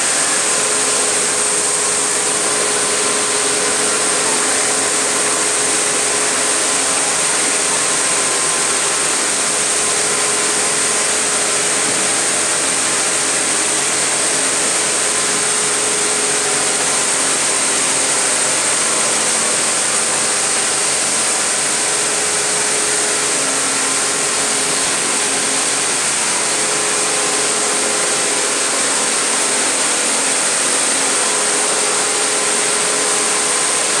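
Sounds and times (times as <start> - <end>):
industrial machinery running: 0.0 - 34.0.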